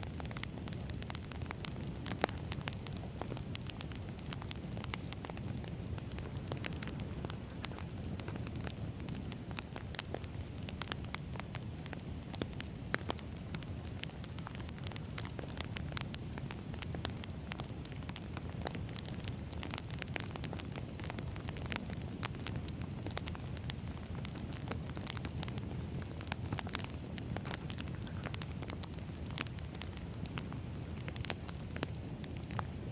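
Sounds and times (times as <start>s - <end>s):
low rumble of flame: 0.0s - 32.9s
wood fire crackling and popping: 0.0s - 32.9s.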